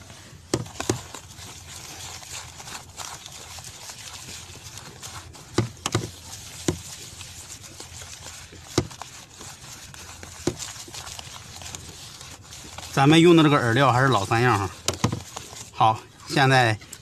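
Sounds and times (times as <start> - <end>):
hands kneading damp bait: 0.0 - 17.0.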